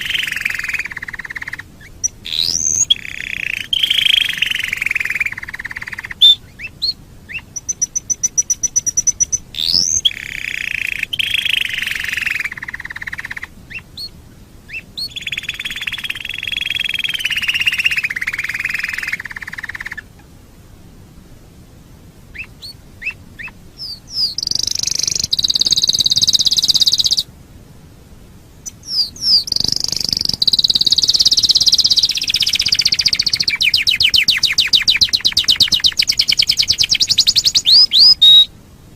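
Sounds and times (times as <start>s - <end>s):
canary singing trills: 0.0s - 20.2s, 22.3s - 27.3s, 28.6s - 38.5s.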